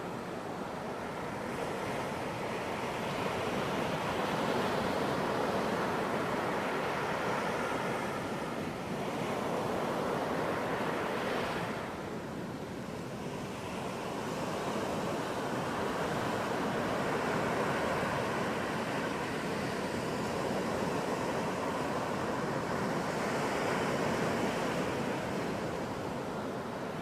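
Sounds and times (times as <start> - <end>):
waves breaking on a beach: 0.0 - 27.0.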